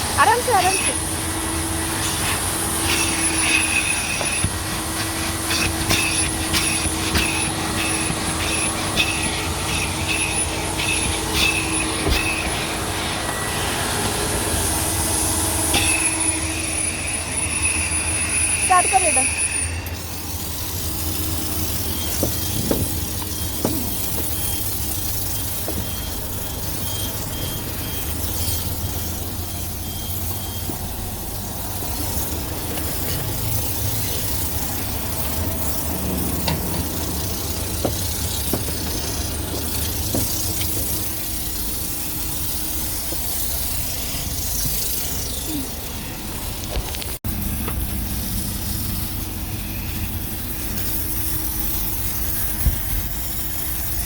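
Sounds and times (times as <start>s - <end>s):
vacuum motor humming: 0.0s - 54.0s.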